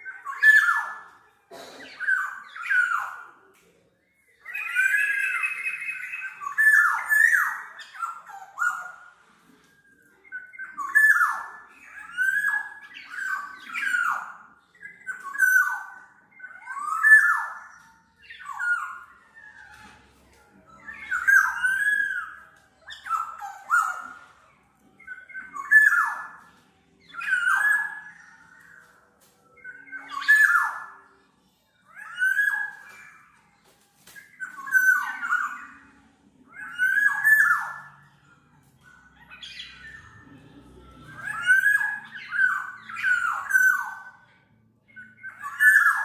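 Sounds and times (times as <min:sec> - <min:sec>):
oriole whistling song: 0:00.0 - 0:46.0.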